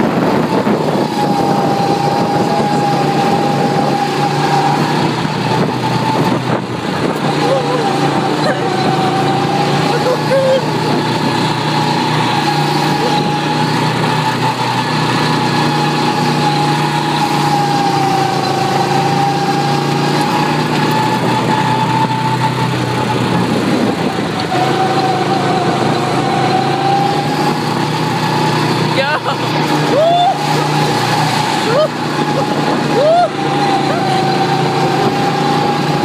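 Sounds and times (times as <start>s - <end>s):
go-kart engine whining: 0.0s - 36.0s.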